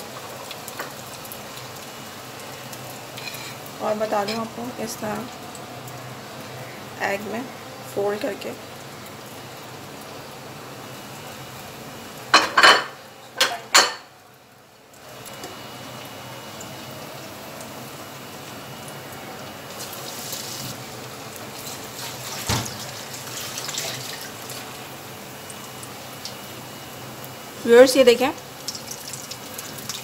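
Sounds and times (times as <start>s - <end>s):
bread deep-frying in hot oil: 0.0s - 30.0s.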